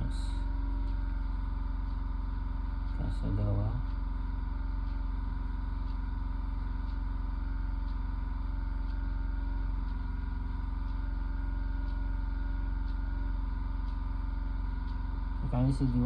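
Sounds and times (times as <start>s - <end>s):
steady low hum: 0.0s - 16.0s
faint ticks: 0.4s - 16.0s.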